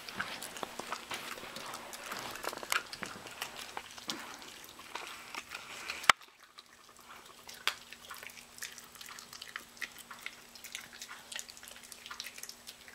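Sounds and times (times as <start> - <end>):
dog chewing wetly: 0.0 - 12.9.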